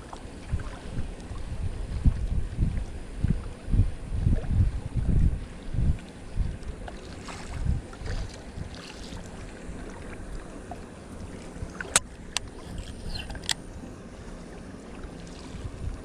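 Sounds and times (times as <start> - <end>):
wind buffeting microphone: 0.0 - 10.4, 11.2 - 13.6, 15.4 - 16.0
water lapping against bank: 0.0 - 16.0.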